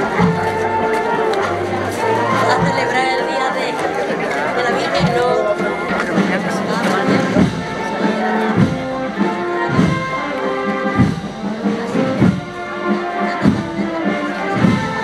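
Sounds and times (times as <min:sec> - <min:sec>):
brass band playing a march: 0:00.0 - 0:15.0
low drum beat: 0:00.0 - 0:15.0.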